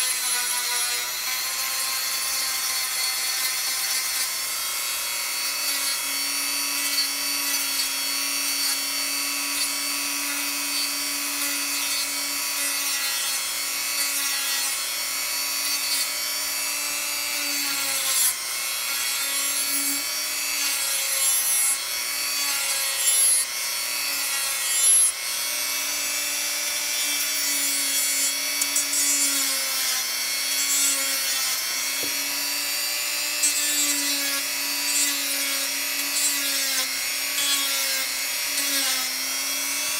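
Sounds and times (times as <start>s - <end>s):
rotary tool sanding: 0.0s - 39.9s.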